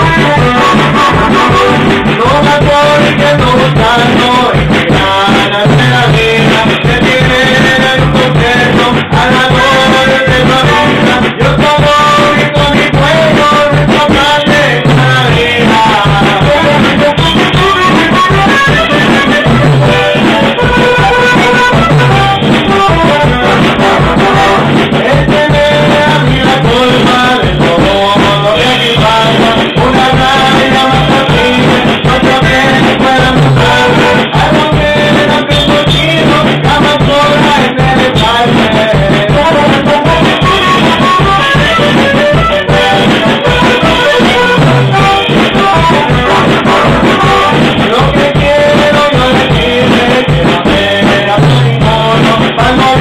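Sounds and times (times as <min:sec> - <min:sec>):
accordion melody: 0:00.0 - 0:53.0
electric bass guitar: 0:00.0 - 0:53.0
strummed acoustic guitar: 0:00.0 - 0:53.0.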